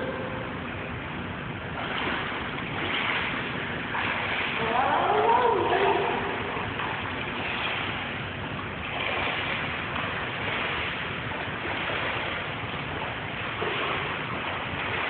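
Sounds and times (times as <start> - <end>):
pool water splashing: 0.0 - 15.0.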